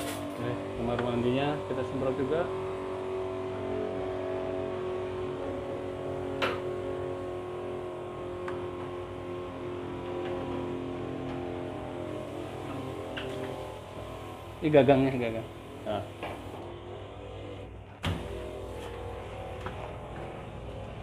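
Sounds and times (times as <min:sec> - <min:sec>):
machinery drone: 0:00.0 - 0:21.0.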